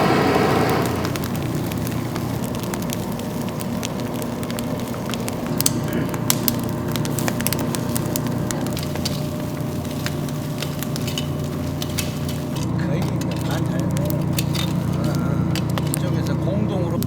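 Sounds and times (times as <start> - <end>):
steady hiss of grilling: 0.0 - 17.0
wood fire crackling and popping: 0.0 - 17.0.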